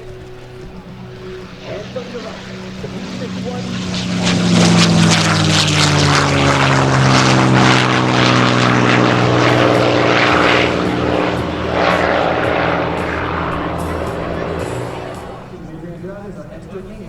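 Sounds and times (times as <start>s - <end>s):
piston aircraft engine flyby: 0.0s - 17.0s.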